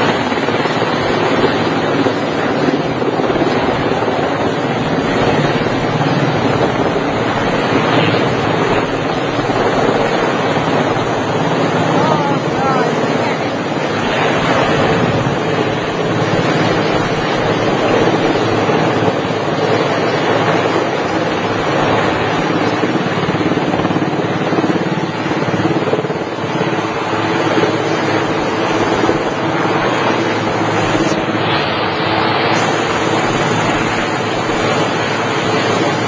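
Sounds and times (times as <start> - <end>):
helicopter rotor and engine: 0.0 - 36.0.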